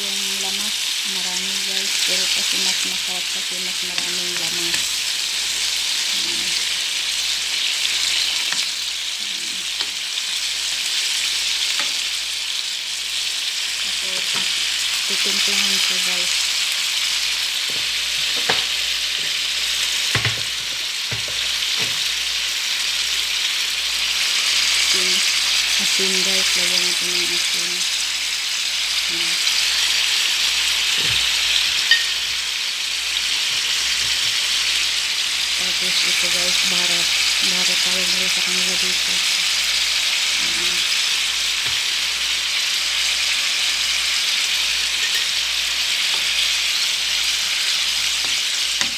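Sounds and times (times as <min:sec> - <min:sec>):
food sizzling in a metal pan: 0:00.0 - 0:48.9.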